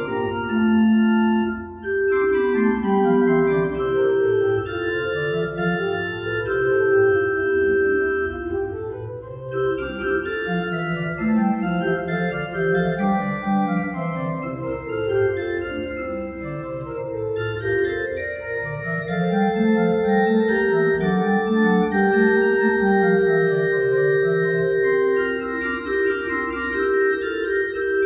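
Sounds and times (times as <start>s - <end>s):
church organ playing chords: 0.0s - 28.0s.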